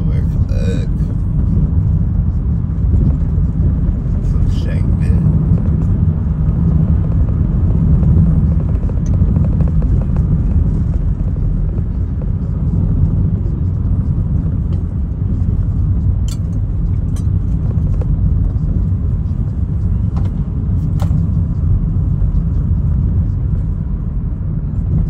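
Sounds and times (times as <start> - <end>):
car engine and tyres rumble: 0.0 - 25.0.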